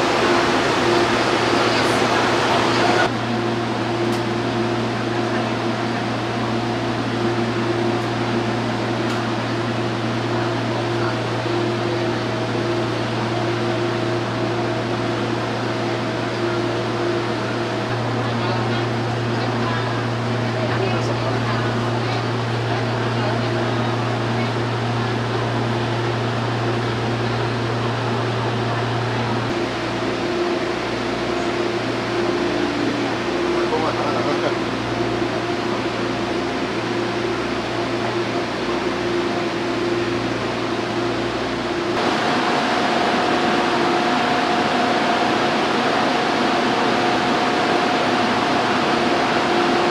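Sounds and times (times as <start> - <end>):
subway hum and rushing: 0.0 - 49.9.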